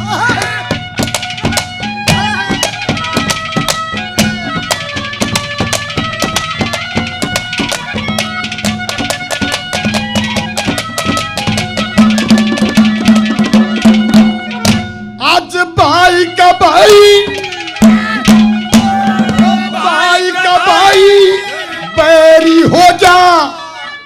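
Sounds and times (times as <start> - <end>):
sustained melody notes: 0.8 - 24.0.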